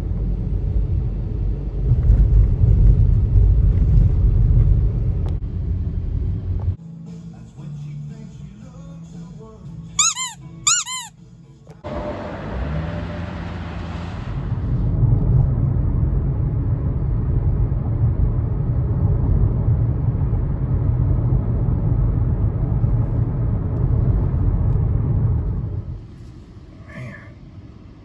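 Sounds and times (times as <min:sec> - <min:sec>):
car road and engine rumble: 0:00.0 - 0:06.8, 0:11.8 - 0:28.0.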